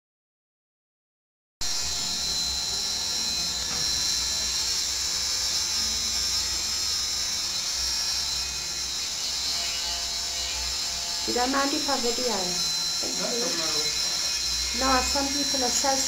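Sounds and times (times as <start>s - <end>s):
rotary tool high whine: 1.6s - 16.0s.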